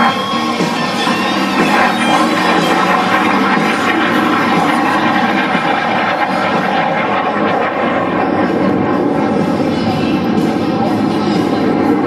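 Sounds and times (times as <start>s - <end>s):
propeller plane piston engine: 0.0s - 12.0s.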